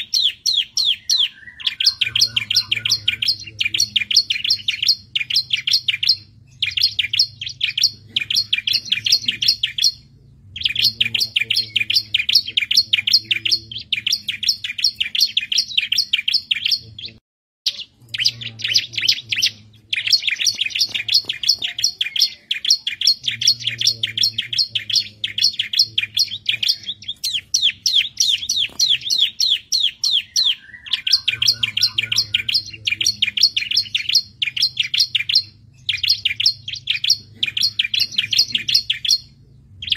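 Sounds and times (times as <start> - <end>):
bird singing chattering phrases: 0.0 - 39.9
faint low hum: 1.5 - 39.9.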